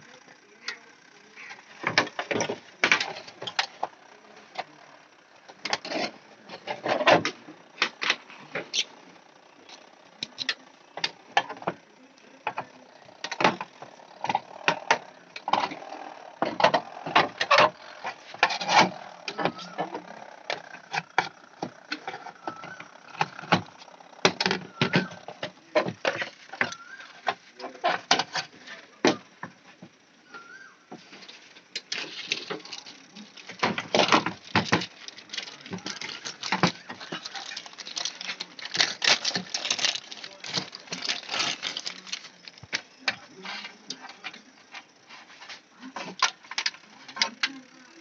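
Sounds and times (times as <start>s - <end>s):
clicks and rattles of parts: 0.0s - 48.0s.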